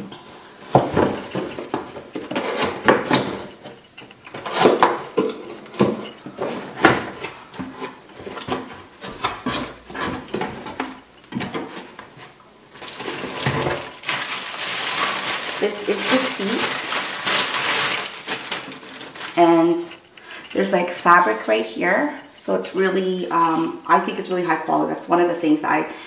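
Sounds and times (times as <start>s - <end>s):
plastic wrapping crinkling: 0.0s - 23.9s.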